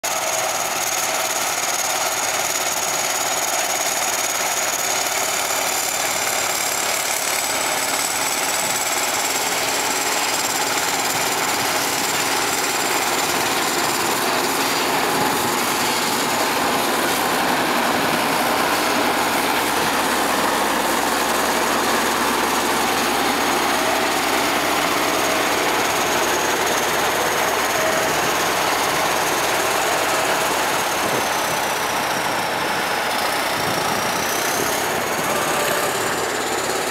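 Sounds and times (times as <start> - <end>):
diesel engines under load: 0.0 - 36.9.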